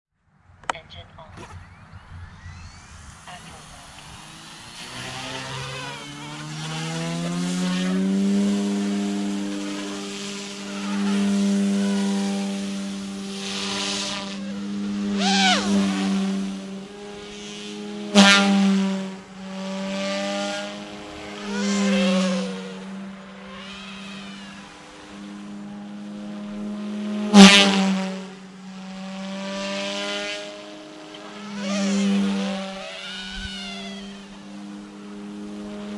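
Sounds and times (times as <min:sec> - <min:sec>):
rc helicopter rotor hum: 0:01.2 - 0:35.9.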